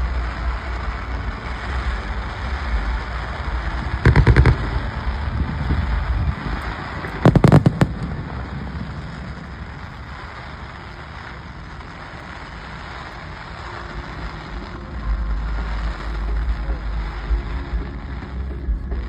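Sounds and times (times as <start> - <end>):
fireworks exploding: 0.0 - 19.0
low rumble: 0.0 - 19.0.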